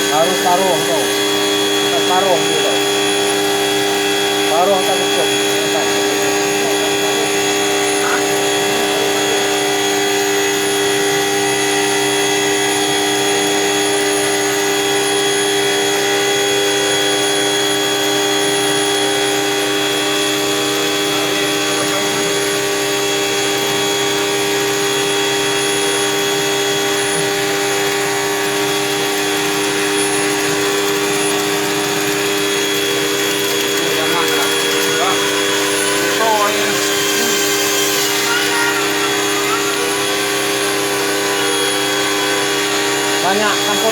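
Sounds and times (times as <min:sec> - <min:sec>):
drain-cleaning machine running: 0:00.0 - 0:43.9.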